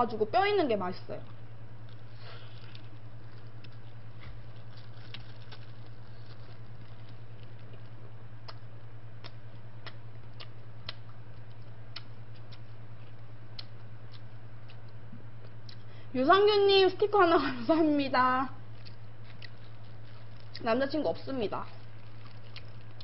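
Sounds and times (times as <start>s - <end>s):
low steady hum: 0.0s - 23.0s
chewing crispy fried chicken: 1.3s - 15.9s, 18.6s - 23.0s.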